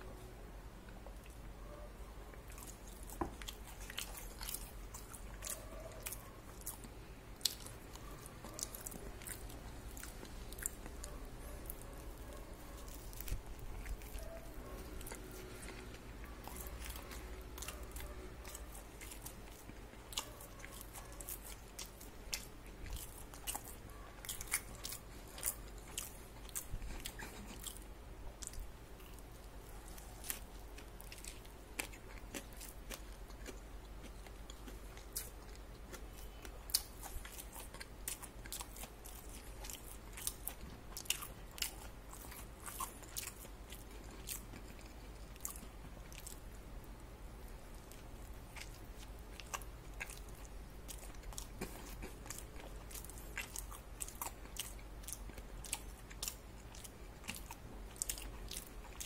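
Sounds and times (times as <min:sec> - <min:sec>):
crunchy chewing: 0:00.8 - 0:59.0.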